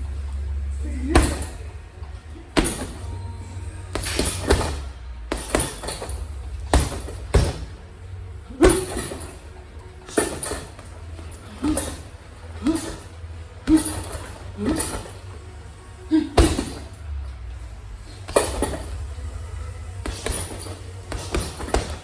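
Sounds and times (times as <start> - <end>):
low hum: 0.0 - 22.0
boxing gloves punching heavy bag: 0.9 - 15.4, 16.1 - 17.1, 18.0 - 22.0.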